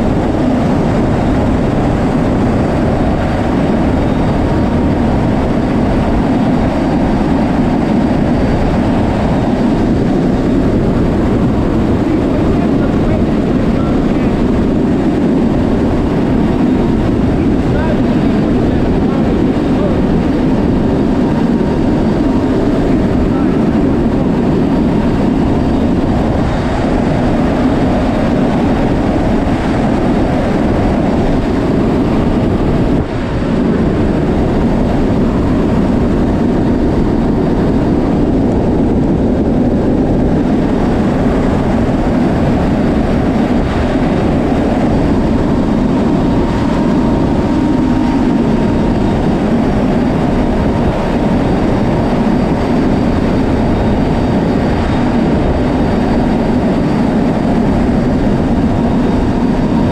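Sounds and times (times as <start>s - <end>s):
turboprop engines roaring: 0.0s - 59.9s.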